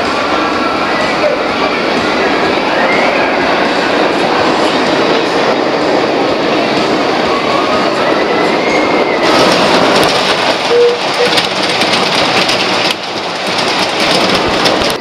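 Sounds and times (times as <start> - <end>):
roller coaster wheels clattering: 0.0 - 15.0.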